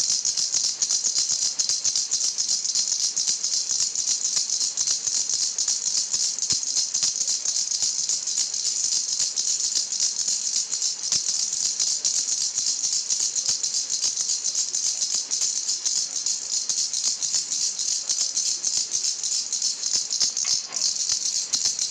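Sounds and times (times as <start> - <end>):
baby's toy rattle shaken: 0.0 - 21.9.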